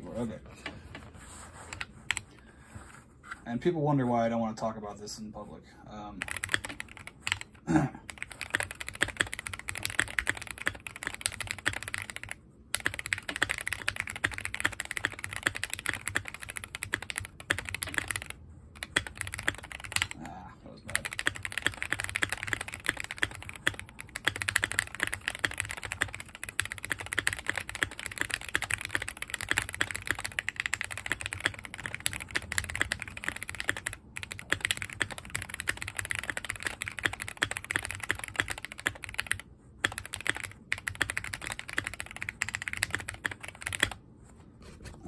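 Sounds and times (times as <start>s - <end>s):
fast typing on mechanical keyboard: 1.6s - 2.3s, 6.2s - 44.0s.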